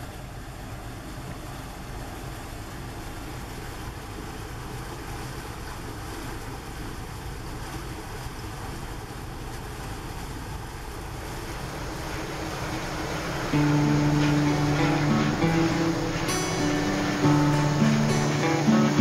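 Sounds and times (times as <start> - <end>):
ship engines droning: 0.0 - 19.0
water noise: 0.0 - 19.0
wind: 0.0 - 19.0.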